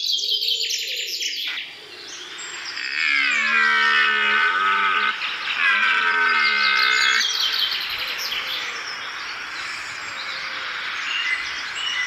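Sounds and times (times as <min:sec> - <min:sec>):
wavering bird calls: 0:00.0 - 0:12.0.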